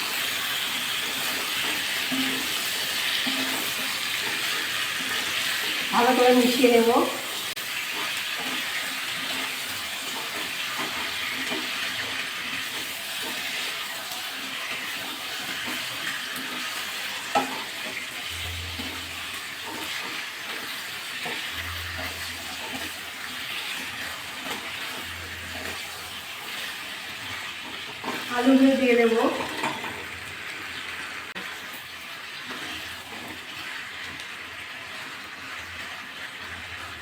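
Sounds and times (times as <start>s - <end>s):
chicken sizzling in hot oil: 0.0s - 37.0s.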